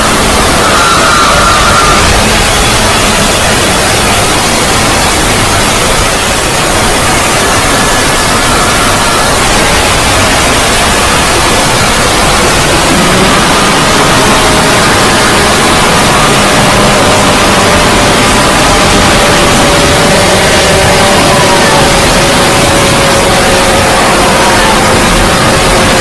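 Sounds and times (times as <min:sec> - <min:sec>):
loud static noise: 0:00.0 - 0:26.0.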